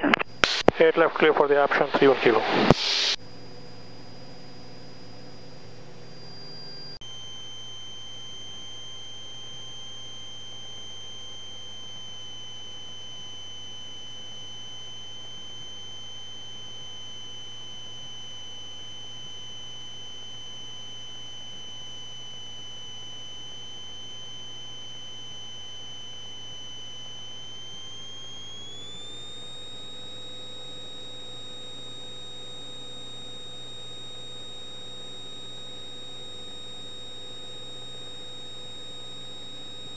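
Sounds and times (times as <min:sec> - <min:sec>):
high-pitched electrical whine: 0:00.0 - 0:39.9.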